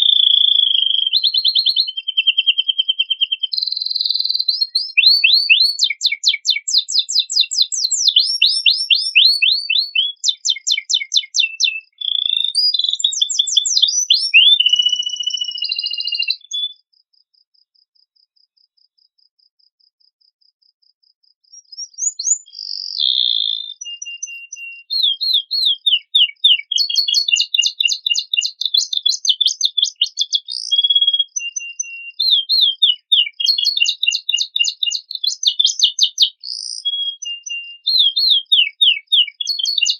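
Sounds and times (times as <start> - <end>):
canary singing trills: 0.0 - 16.9, 21.5 - 39.9.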